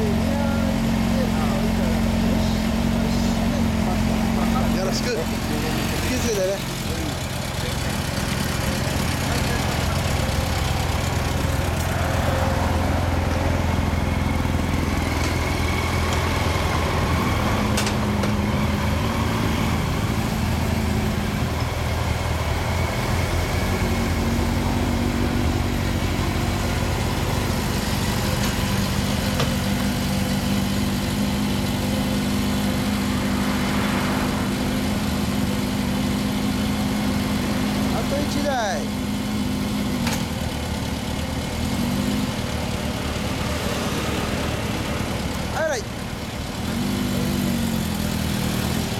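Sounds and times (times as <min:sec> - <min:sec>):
motorcycle engines idling: 0:00.0 - 0:48.9.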